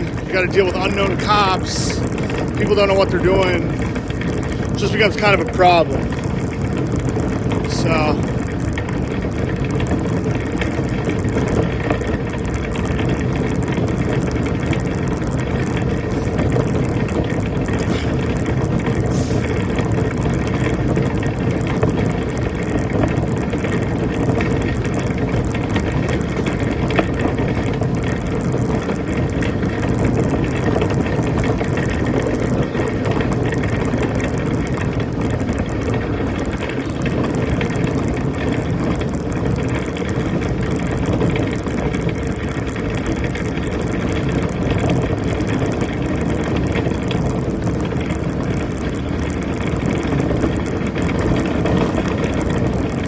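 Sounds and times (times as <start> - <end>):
shopping cart rattling over pavement: 0.0 - 53.0.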